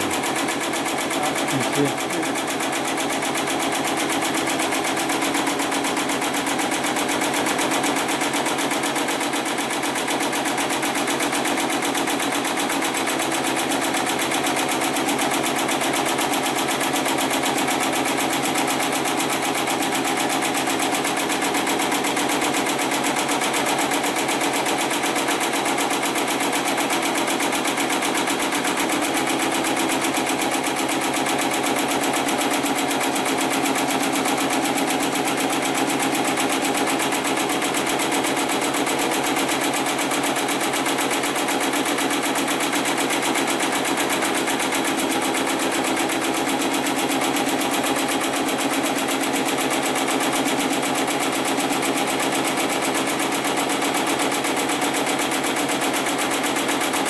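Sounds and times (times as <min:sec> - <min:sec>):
sewing machine stitching: 0:00.0 - 0:57.0.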